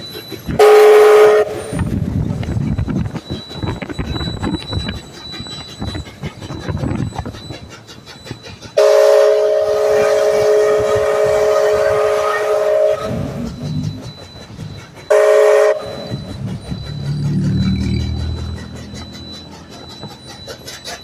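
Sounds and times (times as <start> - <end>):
traffic: 0.0 - 9.3, 11.9 - 21.0
low rumble of passing train: 0.0 - 21.0
steam locomotive chime whistle: 0.0 - 21.0.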